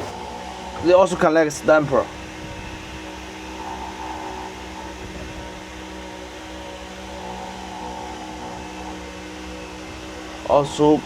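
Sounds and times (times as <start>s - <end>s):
mini excavator humming: 0.0s - 11.0s.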